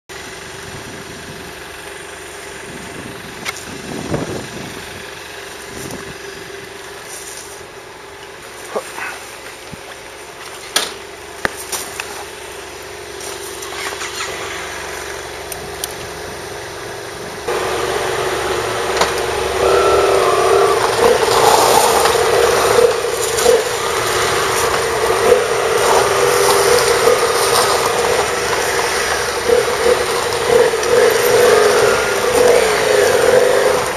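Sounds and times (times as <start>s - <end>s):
motorcycle engines idling: 0.1s - 33.9s
motorcycle engine starting: 0.2s - 33.9s.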